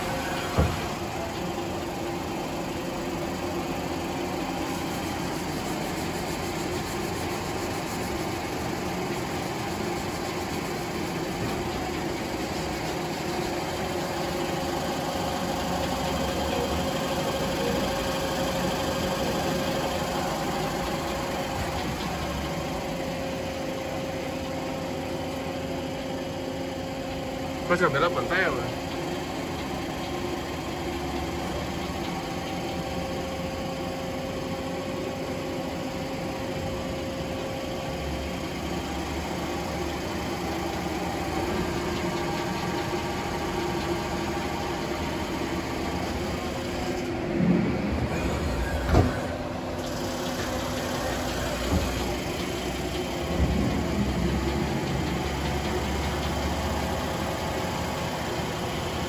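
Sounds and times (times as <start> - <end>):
lathe mechanical hum: 0.0 - 59.0.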